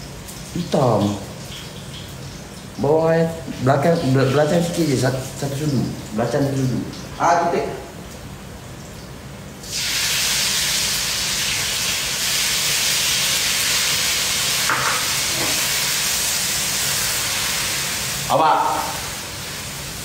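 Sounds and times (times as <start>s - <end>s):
loud sizzling in hot oil: 0.0s - 7.2s, 8.8s - 20.0s.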